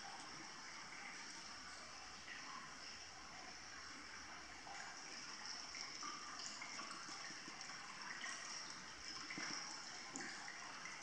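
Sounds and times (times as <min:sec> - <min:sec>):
water trickling into bathtub: 0:00.0 - 0:11.0.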